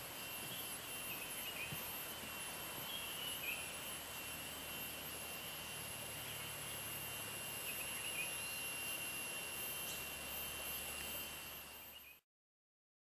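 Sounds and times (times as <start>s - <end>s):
high-pitched insect drone: 0.0s - 12.2s
faint chirps: 0.2s - 12.2s.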